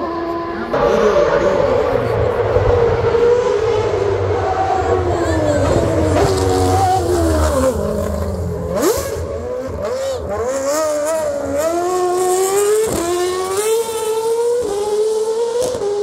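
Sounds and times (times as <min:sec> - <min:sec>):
race car engine revving hard: 0:00.0 - 0:16.0.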